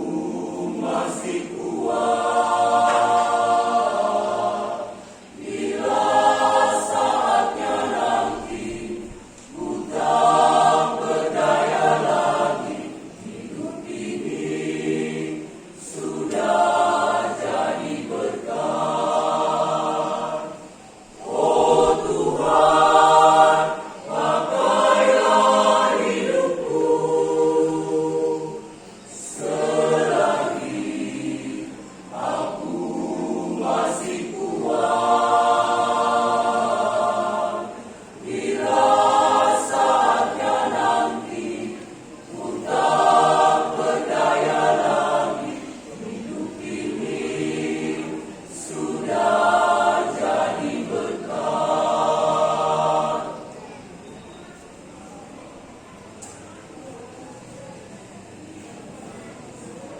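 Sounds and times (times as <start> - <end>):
choir singing: 0.0 - 54.4.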